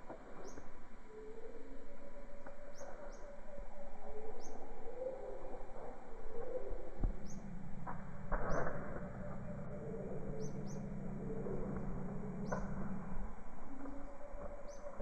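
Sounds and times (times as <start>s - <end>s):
rustle: 0.0s - 15.0s
wavering chorus of bird calls: 0.0s - 15.0s
birds chirping: 0.3s - 15.0s.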